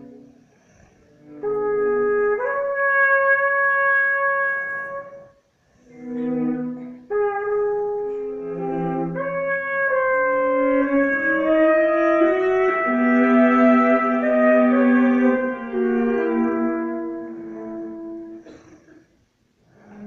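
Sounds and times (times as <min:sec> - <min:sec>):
bowed string instrument: 0:00.0 - 0:18.4, 0:19.7 - 0:20.0
trumpet long held notes: 0:00.0 - 0:18.6.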